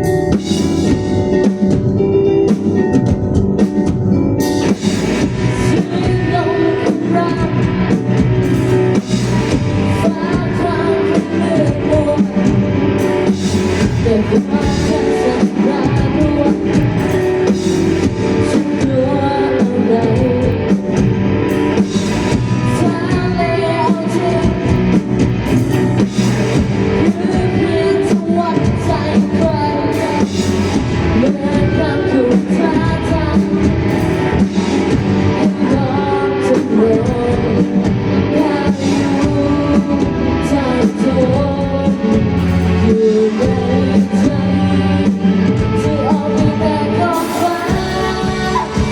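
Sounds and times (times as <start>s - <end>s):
drum kit beat: 0.0s - 48.9s
electric guitar: 0.0s - 48.9s
person singing: 4.4s - 48.9s.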